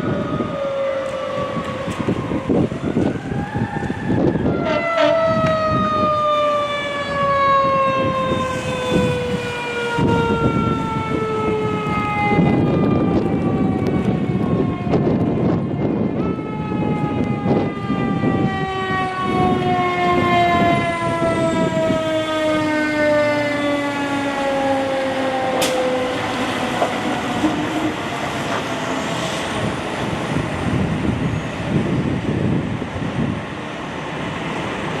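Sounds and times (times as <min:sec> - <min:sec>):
siren winding down: 0:00.0 - 0:32.8
wind on microphone: 0:00.0 - 0:35.0.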